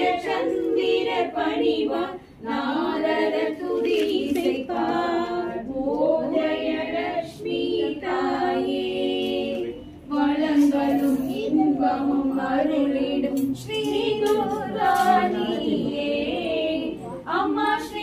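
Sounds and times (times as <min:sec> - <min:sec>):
women singing together: 0:00.0 - 0:18.0.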